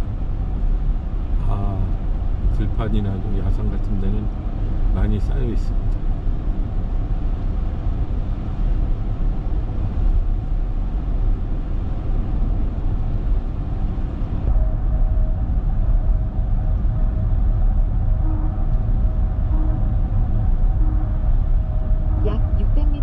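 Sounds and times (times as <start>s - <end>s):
tyres and engine rumble: 0.0s - 23.0s.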